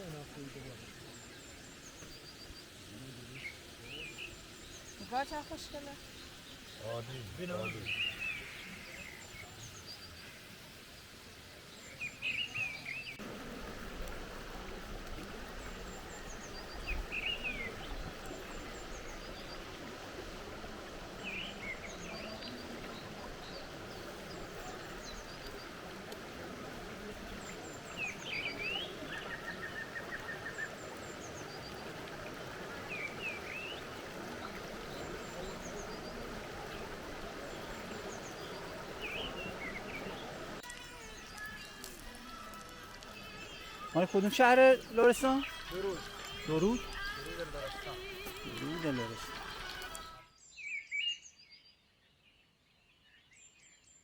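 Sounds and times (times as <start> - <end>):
songbird calls and trill: 0.0 - 13.2, 14.7 - 54.0
flowing water rushing: 0.0 - 50.2.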